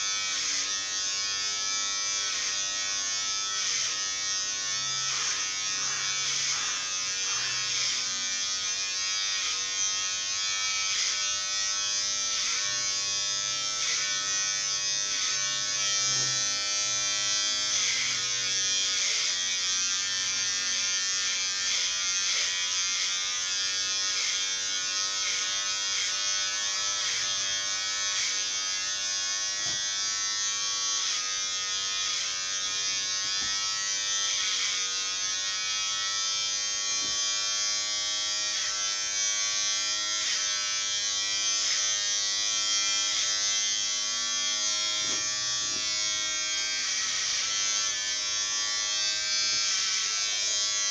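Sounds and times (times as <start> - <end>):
electric hair clipper running: 0.0 - 50.9.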